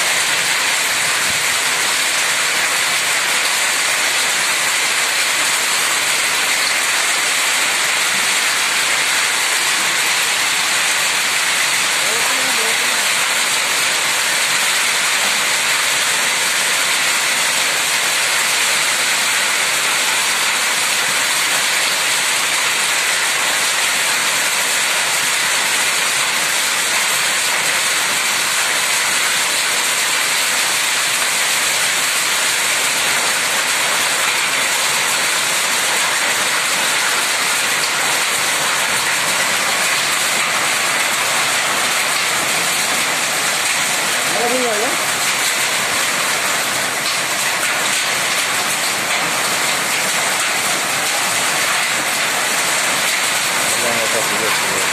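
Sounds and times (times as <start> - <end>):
hail and heavy rain pelting: 0.0 - 54.9.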